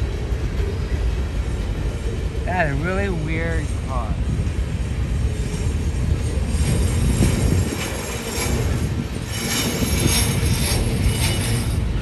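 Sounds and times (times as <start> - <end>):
flatcars rumbling on rails: 0.0 - 12.0.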